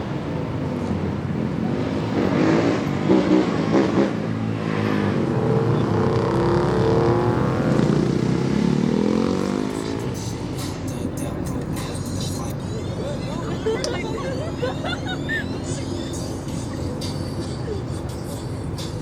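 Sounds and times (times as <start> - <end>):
car engine revving: 1.2 - 19.0.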